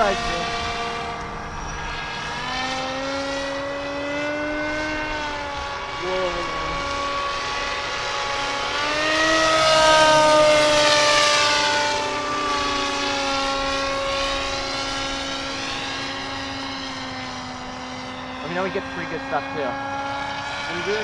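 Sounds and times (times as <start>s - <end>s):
model plane motor whining: 0.0s - 21.0s.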